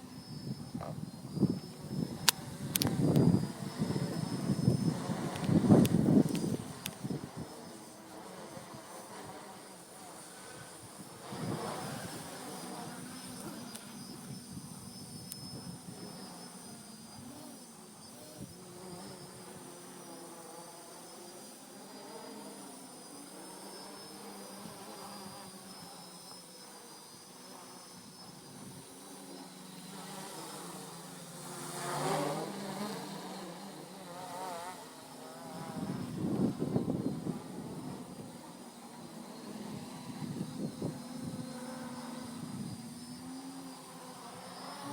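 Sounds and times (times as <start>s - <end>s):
quadcopter motors buzzing: 0.0s - 44.9s.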